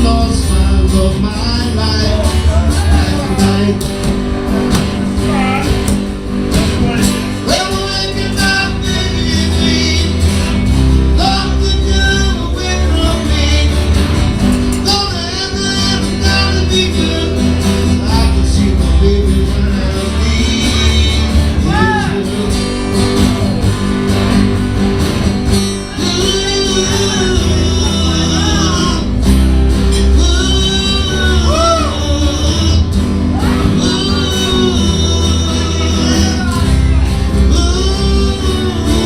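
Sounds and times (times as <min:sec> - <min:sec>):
person singing: 0:00.0 - 0:04.1, 0:06.6 - 0:23.6, 0:25.7 - 0:29.2, 0:29.9 - 0:39.0
acoustic guitars playing: 0:00.0 - 0:39.0.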